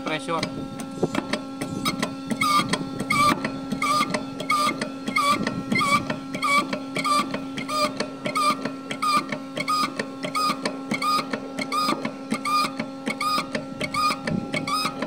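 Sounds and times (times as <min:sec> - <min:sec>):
steady pump hum: 0:00.0 - 0:15.0
hydraulic pump squeaky chirps: 0:00.4 - 0:15.0.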